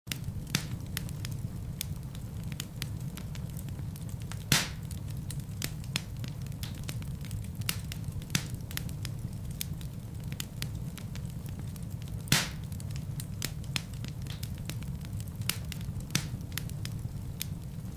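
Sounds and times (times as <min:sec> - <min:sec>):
fire crackling and popping: 0:00.1 - 0:17.9
low rumble of flames: 0:00.1 - 0:17.9.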